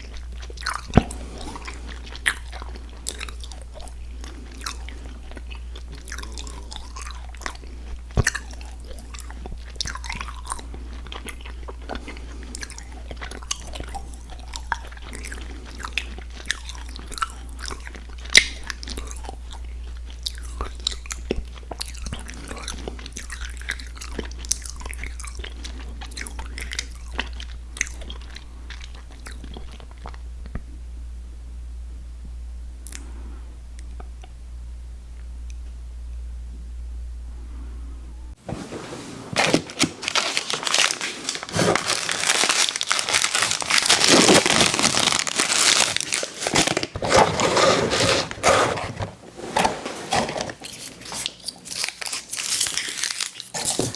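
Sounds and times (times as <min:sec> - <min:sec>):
chewing sweets: 0:00.0 - 0:30.6, 0:39.4 - 0:49.0, 0:50.0 - 0:53.9.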